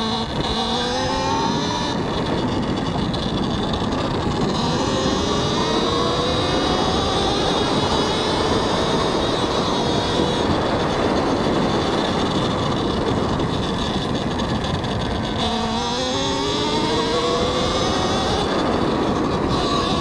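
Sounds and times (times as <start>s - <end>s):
electric motor whining: 0.0s - 20.0s
wind noise on microphone: 0.0s - 20.0s.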